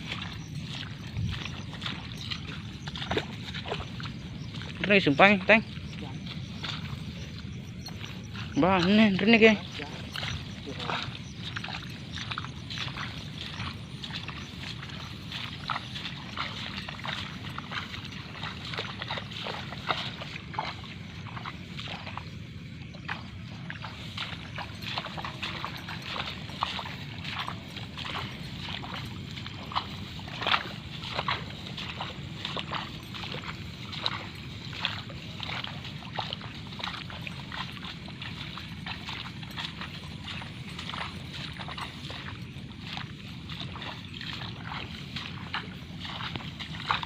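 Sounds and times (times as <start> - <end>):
footsteps sloshing through water and mud: 0.0 - 47.0
steady low rumble: 0.0 - 47.0.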